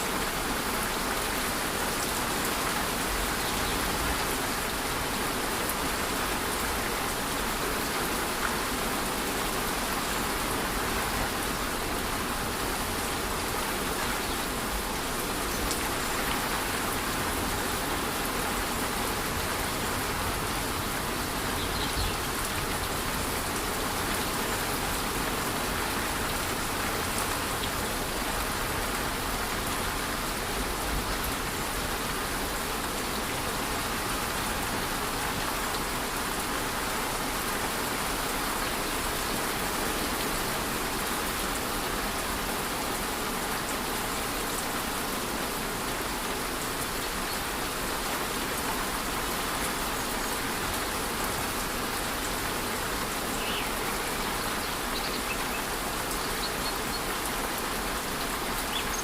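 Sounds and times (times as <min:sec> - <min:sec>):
rain pattering on foliage: 0:00.0 - 0:59.0
waterfall rushing: 0:00.0 - 0:59.0.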